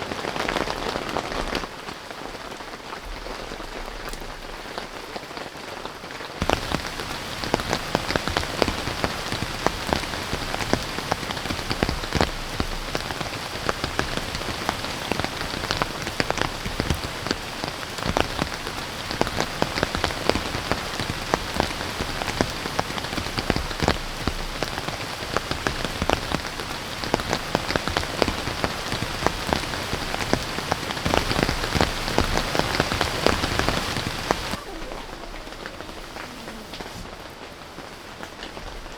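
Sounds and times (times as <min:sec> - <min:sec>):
heavy rain: 0:00.0 - 0:38.9
raindrops ticking: 0:00.0 - 0:38.9.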